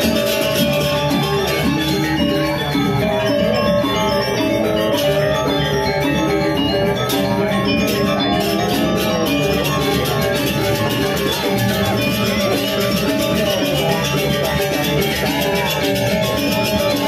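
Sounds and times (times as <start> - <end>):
gamelan playing: 0.0 - 17.0.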